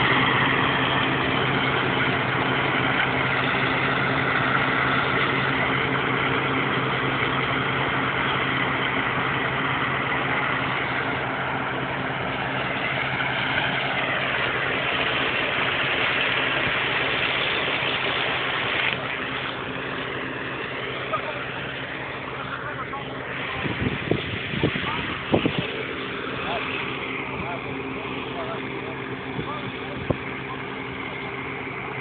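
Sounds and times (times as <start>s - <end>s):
engine humming: 0.0s - 32.0s
threshing machinery running: 0.0s - 32.0s.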